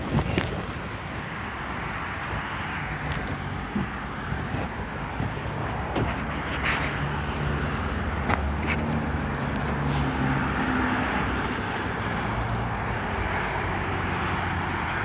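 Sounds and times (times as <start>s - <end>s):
vehicle motor rumble: 0.0s - 15.0s.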